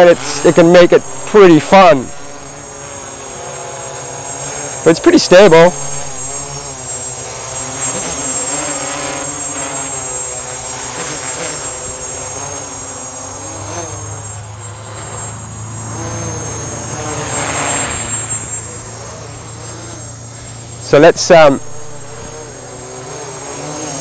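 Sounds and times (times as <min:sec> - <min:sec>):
quadcopter propeller buzz: 0:00.0 - 0:24.0.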